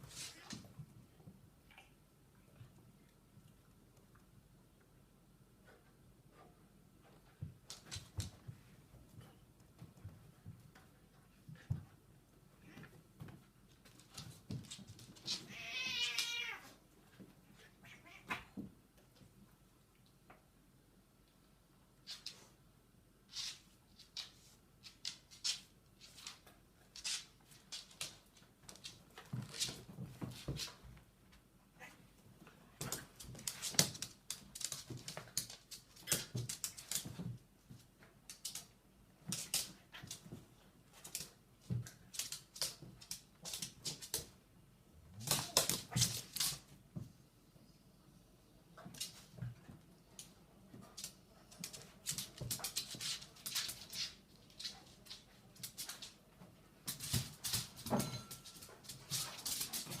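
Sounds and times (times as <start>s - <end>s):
cat and dog scuffling: 0.0s - 19.9s, 21.4s - 60.0s.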